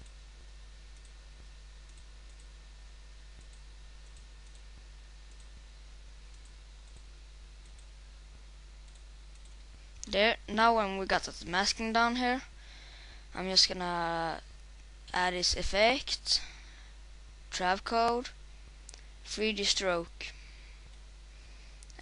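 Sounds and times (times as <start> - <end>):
low electrical hum and hiss: 0.0 - 22.0.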